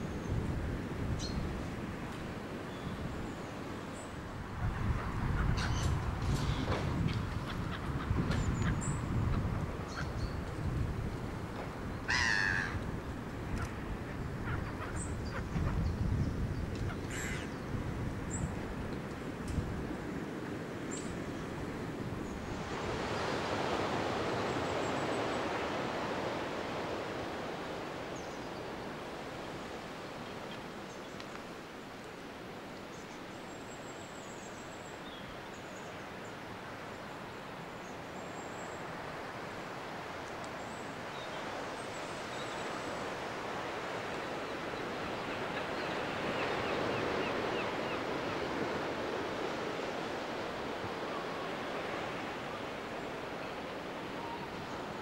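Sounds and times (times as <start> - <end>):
sea surf rushing: 0.0 - 55.0
wind: 0.0 - 55.0.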